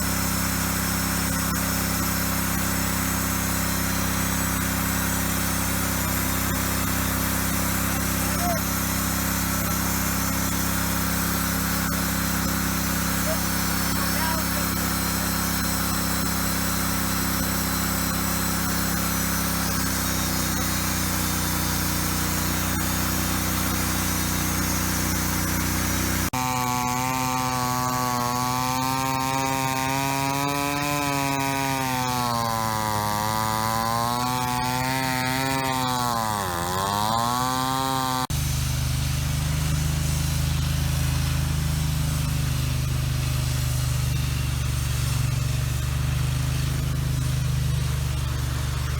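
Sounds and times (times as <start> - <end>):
saw blade cutting log: 0.0 - 48.9
sawmill engine hum: 0.0 - 48.9.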